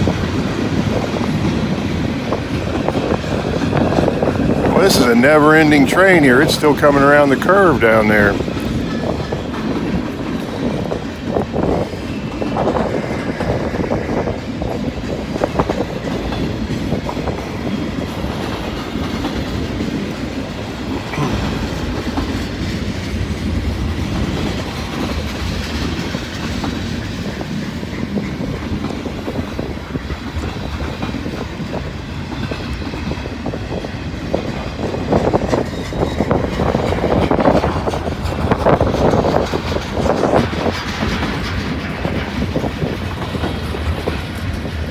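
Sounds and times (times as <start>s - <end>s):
freight cars rumbling: 0.0s - 44.9s
train wheels clacking over rail joints: 0.0s - 44.9s
wind buffeting microphone: 0.0s - 44.9s.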